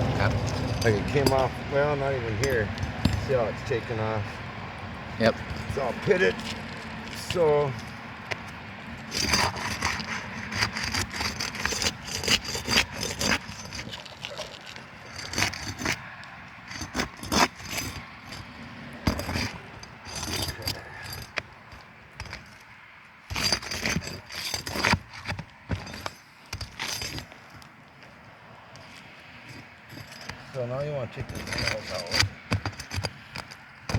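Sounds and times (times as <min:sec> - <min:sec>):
hand tools scraping roof shingles: 0:00.1 - 0:03.8, 0:05.2 - 0:33.9.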